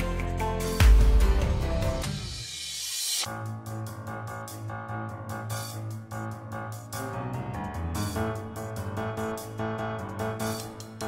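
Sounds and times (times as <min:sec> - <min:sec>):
background piano music: 0:00.0 - 0:02.4, 0:03.3 - 0:11.0.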